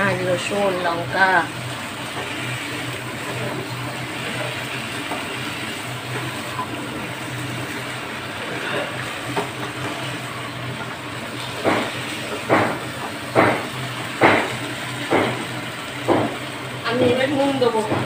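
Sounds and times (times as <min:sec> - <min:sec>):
food sizzling in spice paste: 0:00.0 - 0:17.9.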